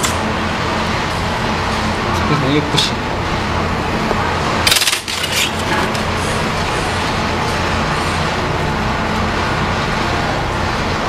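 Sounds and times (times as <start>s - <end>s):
low background rumble and hum: 0.0s - 11.0s.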